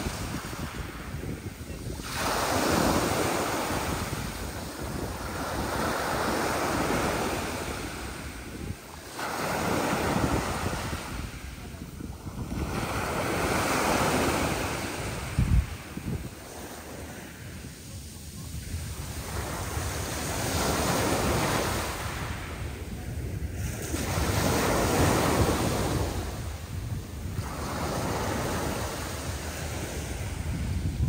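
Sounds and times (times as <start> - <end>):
sea waves breaking: 0.0 - 31.0
wind buffeting microphone: 0.0 - 31.0.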